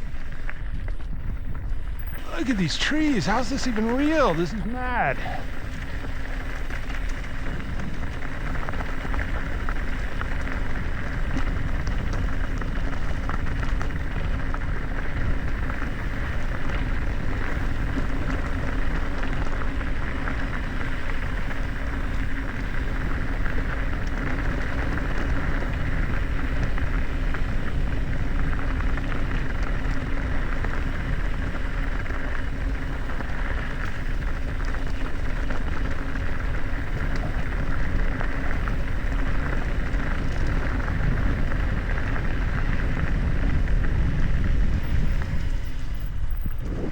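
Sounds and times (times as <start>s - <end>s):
tyres rushing on dirt and gravel: 2.0s - 46.9s
bike rattling: 5.4s - 46.8s.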